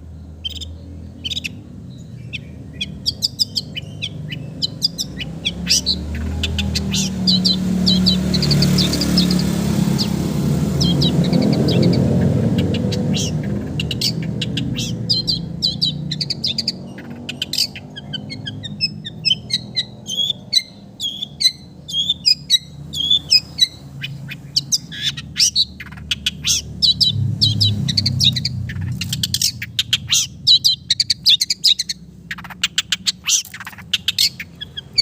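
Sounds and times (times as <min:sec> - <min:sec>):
shrike singing harsh chattering: 0:02.3 - 0:35.0.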